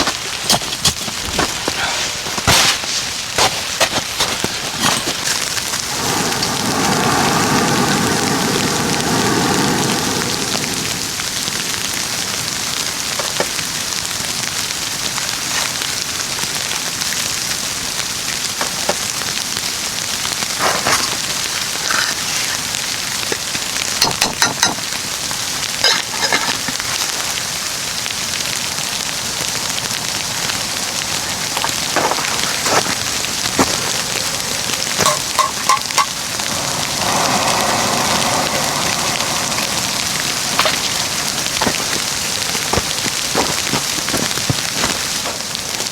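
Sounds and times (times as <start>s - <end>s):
wet snow falling: 0.0s - 45.9s.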